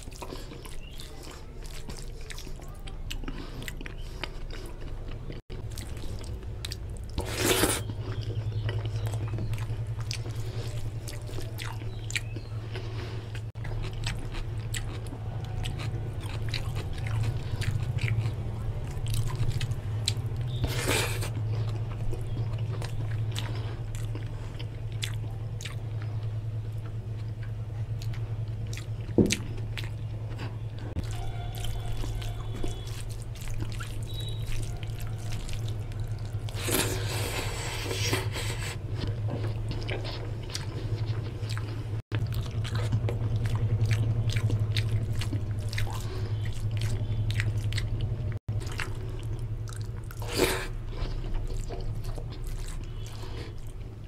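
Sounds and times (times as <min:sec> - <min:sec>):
steady low hum: 0:00.0 - 0:54.0
wet chewing and mouth smacking: 0:00.0 - 0:54.0.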